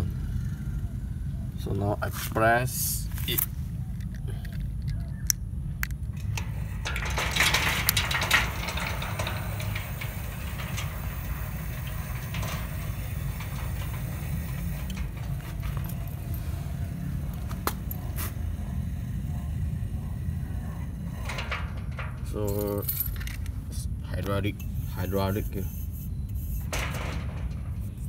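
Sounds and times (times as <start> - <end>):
gate opener humming: 4.8 - 28.0.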